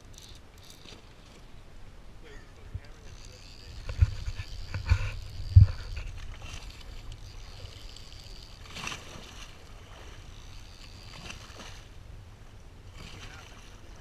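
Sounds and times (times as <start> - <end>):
boat low rumble: 0.0 - 14.0.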